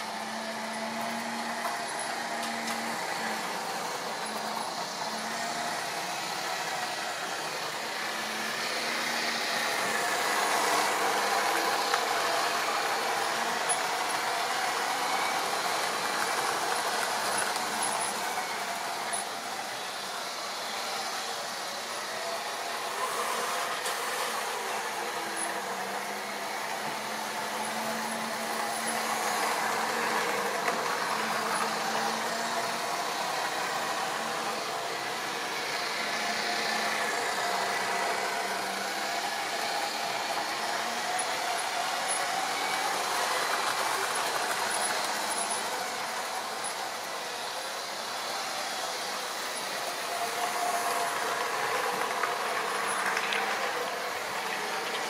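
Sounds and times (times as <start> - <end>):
model train electric motor whirring: 0.0 - 55.0
wheels on rails: 0.0 - 55.0.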